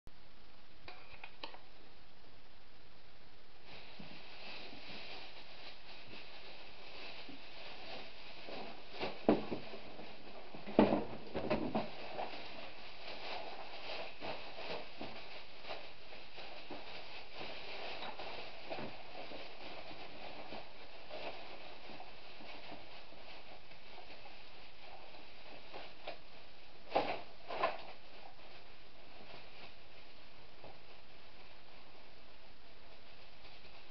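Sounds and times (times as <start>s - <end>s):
plastic bin bag rustling: 3.6s - 32.2s.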